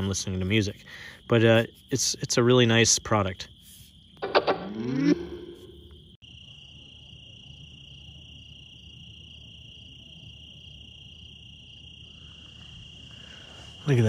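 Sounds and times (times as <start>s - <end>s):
crickets trilling: 0.0s - 14.0s
pulsing insect call: 0.0s - 14.0s.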